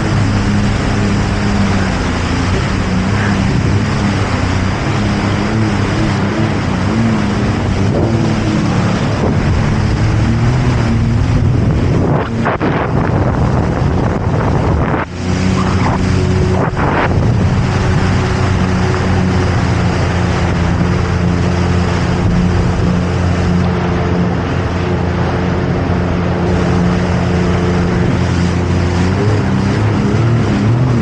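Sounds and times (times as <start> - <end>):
jet ski engine running: 0.0 - 31.0
water noise: 0.0 - 31.0
wind buffeting microphone: 0.0 - 31.0.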